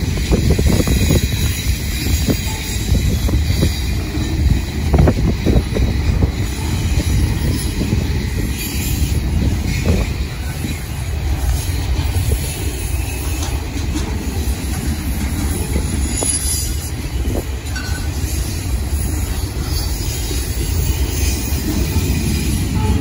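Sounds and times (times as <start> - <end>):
faint high wheel squeal: 0.0 - 23.0
steel wheels rumbling on rails: 0.0 - 23.0.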